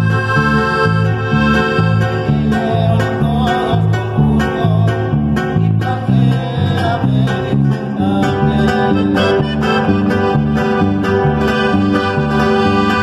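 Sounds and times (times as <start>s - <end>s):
acoustic guitars strumming: 0.0s - 13.0s
low bass line: 0.0s - 13.0s.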